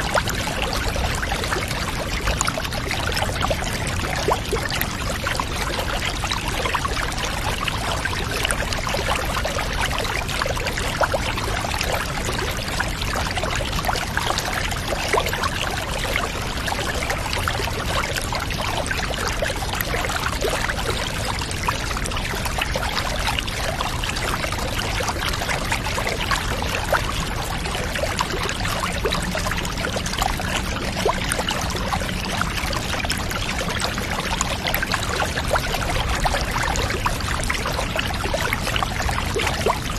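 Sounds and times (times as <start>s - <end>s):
water pouring into a bath: 0.0s - 39.9s.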